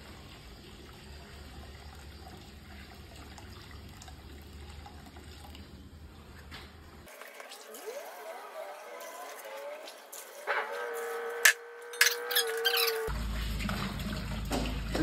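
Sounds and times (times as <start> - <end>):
water trickling into a tank: 0.0 - 10.2, 13.0 - 15.0.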